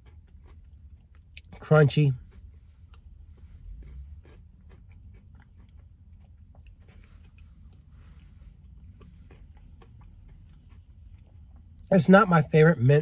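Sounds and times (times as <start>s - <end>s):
crunchy chewing: 0.0s - 11.9s.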